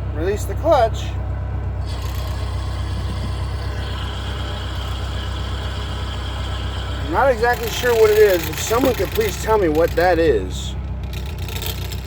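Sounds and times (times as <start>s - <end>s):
steady high whine: 0.0s - 10.4s
transmission rushing whir: 0.0s - 12.0s
vehicle engine idling: 0.0s - 12.0s.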